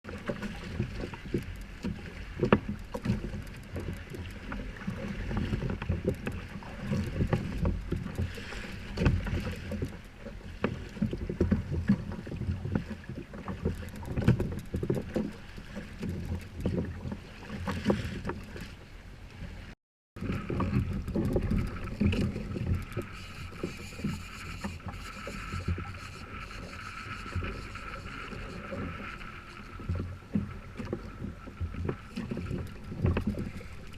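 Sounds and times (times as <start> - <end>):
water slapping around kayak: 0.0 - 33.9.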